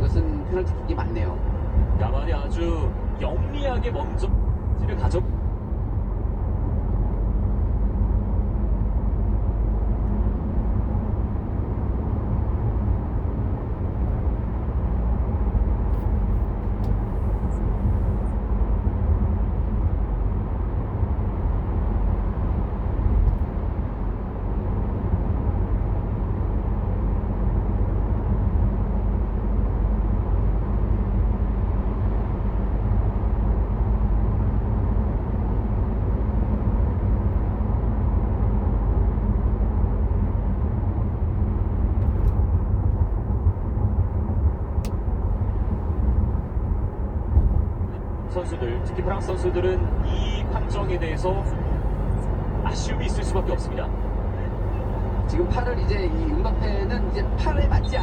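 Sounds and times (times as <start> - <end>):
in-car road and engine rumble: 0.0 - 58.0.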